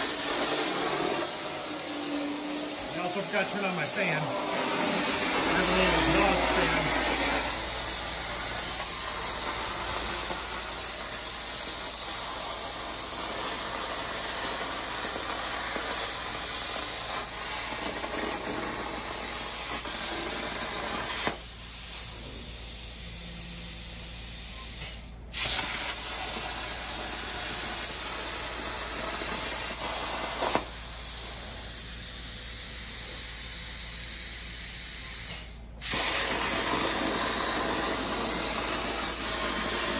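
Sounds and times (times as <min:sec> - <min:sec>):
plasma torch cutting steel hiss: 0:00.0 - 0:39.9.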